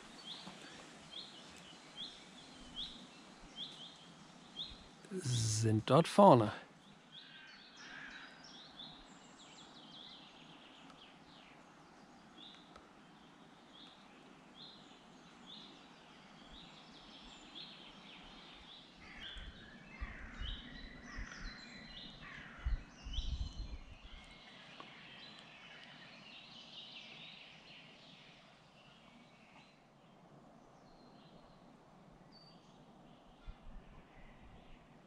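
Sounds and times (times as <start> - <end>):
several birds singing: 0.0 - 5.0, 6.4 - 29.8.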